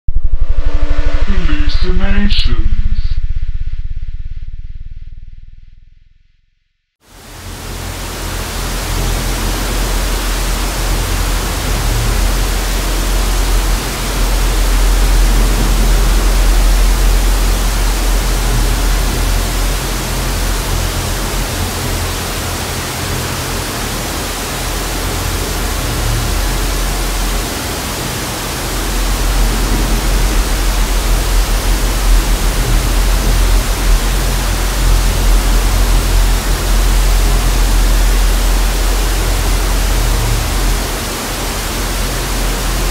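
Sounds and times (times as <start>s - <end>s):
low rumble: 0.0s - 42.9s
tv static hiss: 7.1s - 42.9s.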